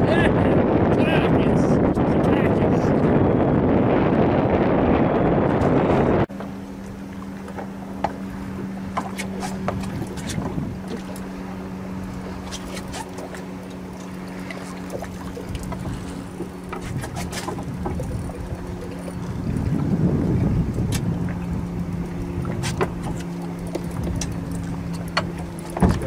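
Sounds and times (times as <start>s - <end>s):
electric trolling motor humming: 3.2s - 26.0s.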